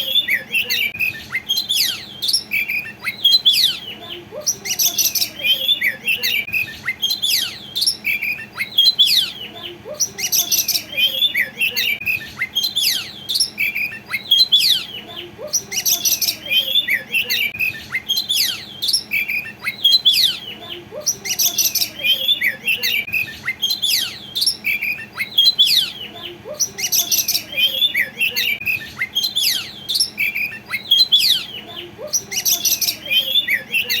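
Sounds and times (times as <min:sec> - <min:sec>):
bird singing whistles: 0:00.0 - 0:34.0.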